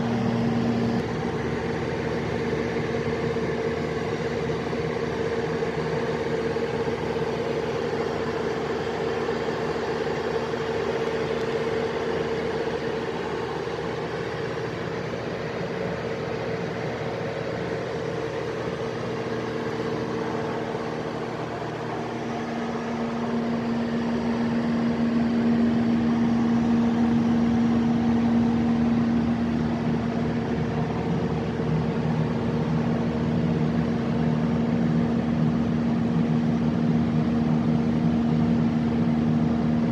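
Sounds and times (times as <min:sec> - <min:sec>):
diesel generator droning: 0:00.0 - 0:39.9.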